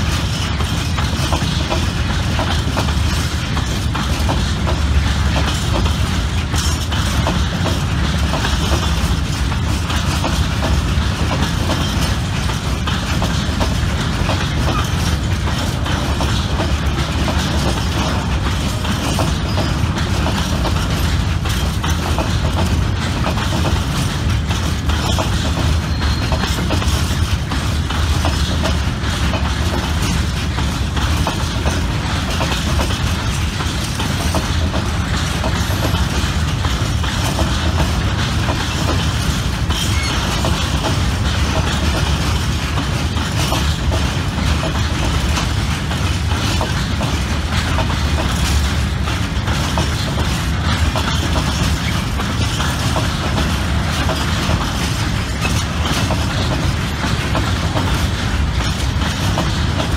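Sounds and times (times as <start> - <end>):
freight wagons rumbling: 0.0 - 59.9
wheels clattering on rails: 0.0 - 59.9.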